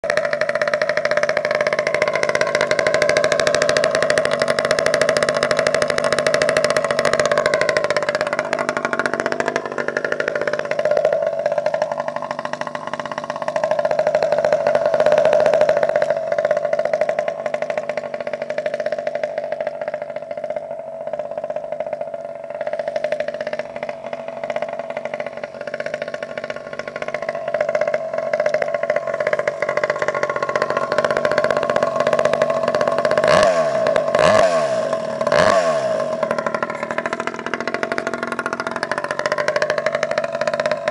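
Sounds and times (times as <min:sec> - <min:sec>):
small two-stroke engine revving: 0:00.0 - 0:40.9.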